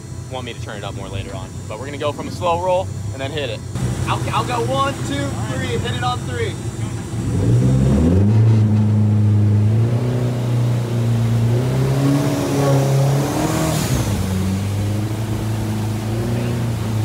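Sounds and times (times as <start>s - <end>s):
boat engine drone: 0.0s - 17.0s
second engine climbing in pitch: 2.8s - 17.0s.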